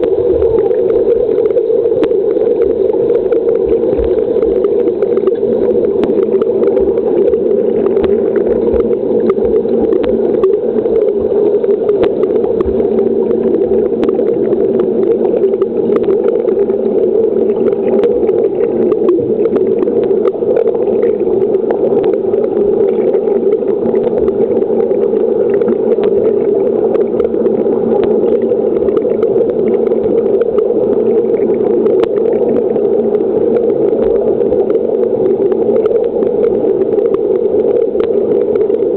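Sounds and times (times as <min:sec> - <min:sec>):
underwater pool hum: 0:00.0 - 0:38.9.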